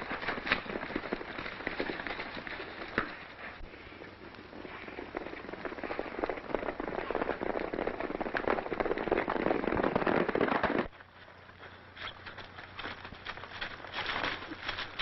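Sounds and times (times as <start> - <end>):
horses galloping: 0.0 - 15.0.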